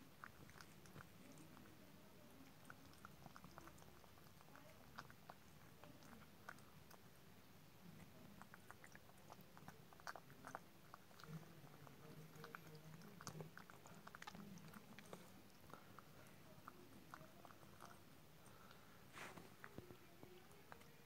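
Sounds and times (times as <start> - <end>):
cat chewing wet food: 0.0 - 21.0.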